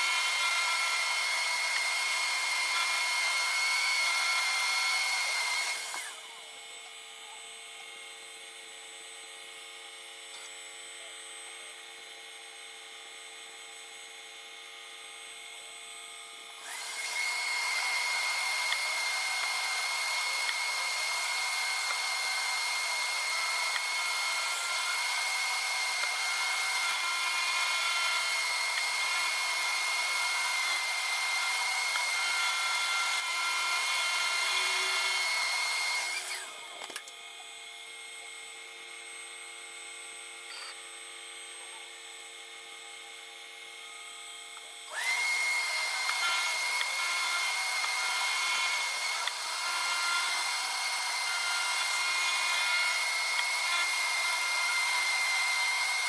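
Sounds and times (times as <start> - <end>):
milling machine cutting metal: 0.0 - 56.0
steady motor tones: 0.0 - 56.0.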